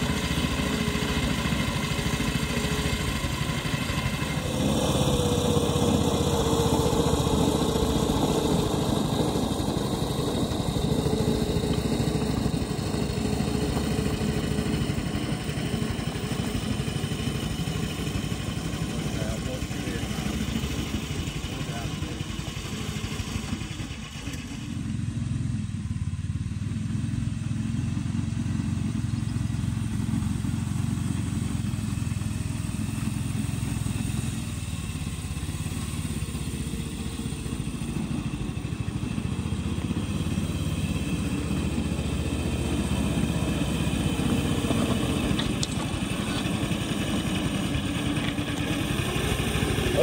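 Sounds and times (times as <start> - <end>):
small petrol engine running: 0.0 - 50.0.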